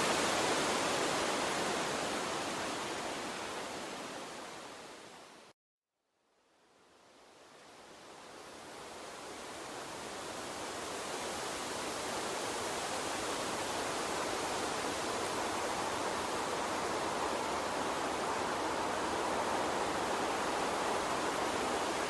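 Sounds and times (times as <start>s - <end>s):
flowing water stream: 0.0s - 5.5s, 7.2s - 22.0s.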